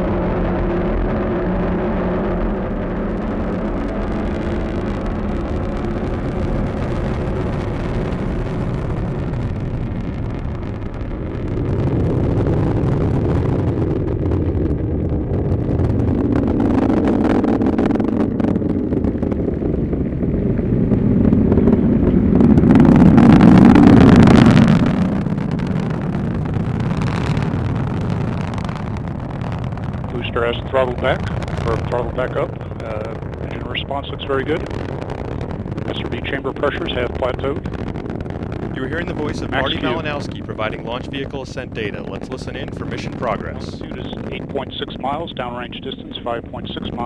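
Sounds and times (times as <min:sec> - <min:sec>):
rocket engine low rumble: 0:00.0 - 0:47.0.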